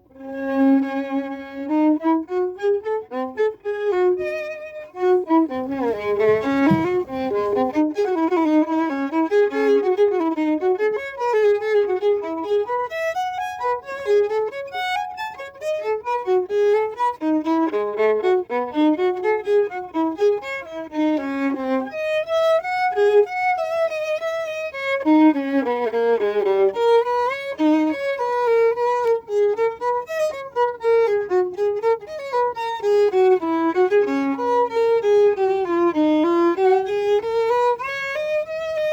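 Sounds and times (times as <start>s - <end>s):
fiddle playing fast melody: 0.0s - 38.9s.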